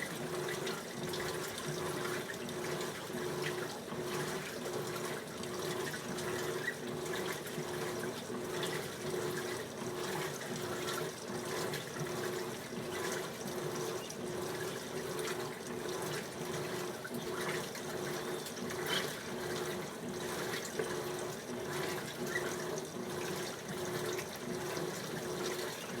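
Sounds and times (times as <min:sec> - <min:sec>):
water sloshing in washing machine: 0:00.0 - 0:26.0.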